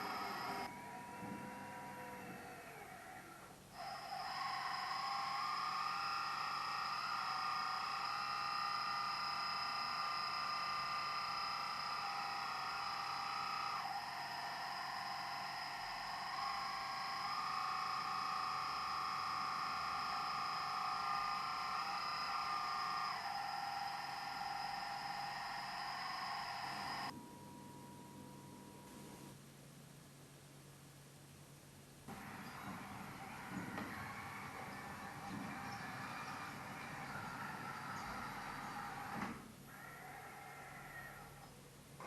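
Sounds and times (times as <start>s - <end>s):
hydraulic pump motor whining: 0.0s - 27.2s, 32.1s - 39.5s.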